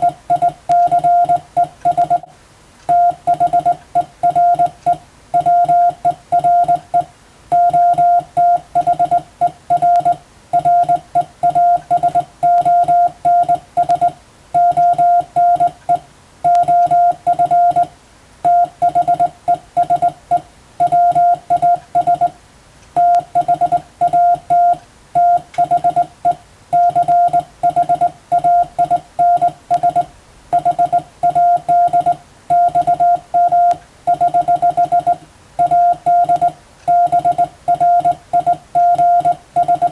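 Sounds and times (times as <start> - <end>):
morse code beeps: 0.0 - 2.3, 2.9 - 22.4, 23.0 - 39.9.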